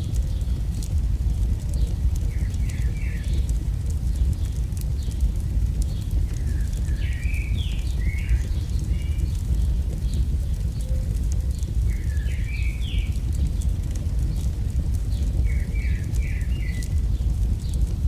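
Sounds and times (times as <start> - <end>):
campfire crackling: 0.0 - 18.0
birds chirping: 0.1 - 17.9.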